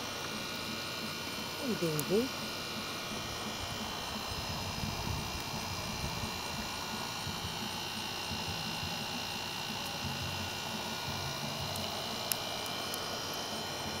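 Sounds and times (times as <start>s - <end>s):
electrical hum with high whine: 0.0s - 14.0s.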